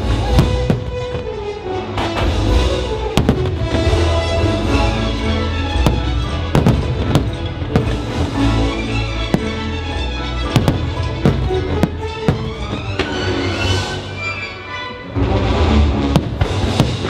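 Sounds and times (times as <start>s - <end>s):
fireworks bangs: 0.0s - 13.7s, 16.1s - 17.0s
loud show music: 0.0s - 17.0s.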